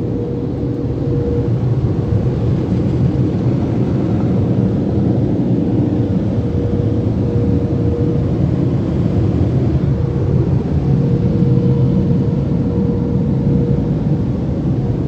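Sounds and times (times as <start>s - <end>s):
car wash equipment rumble: 0.0s - 15.0s
faint steady hum: 0.0s - 15.0s.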